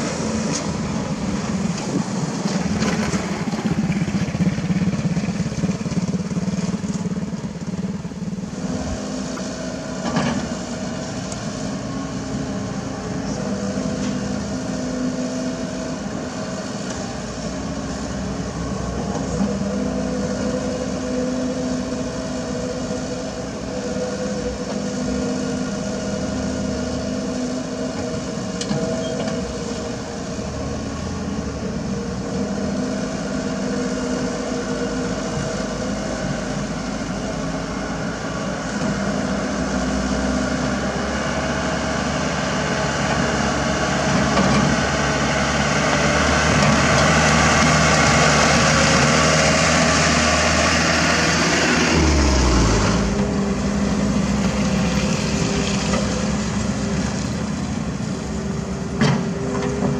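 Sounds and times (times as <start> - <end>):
dump truck engine: 0.0 - 59.9
excavator diesel engine: 0.0 - 59.9.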